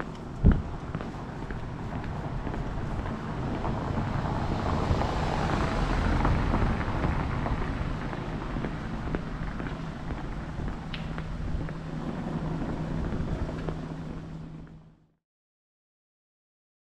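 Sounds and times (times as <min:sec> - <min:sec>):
passing vehicle engine rushing: 0:00.2 - 0:14.7.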